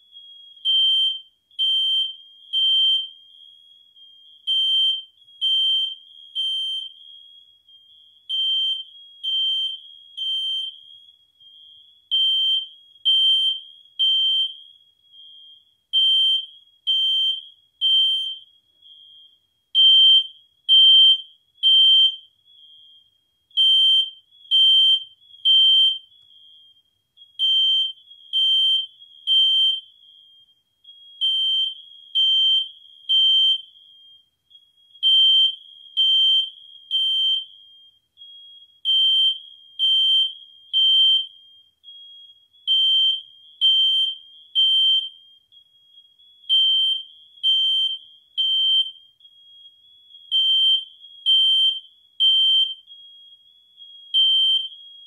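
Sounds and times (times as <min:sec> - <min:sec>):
smoke alarm beeping: 0:00.0 - 0:55.0.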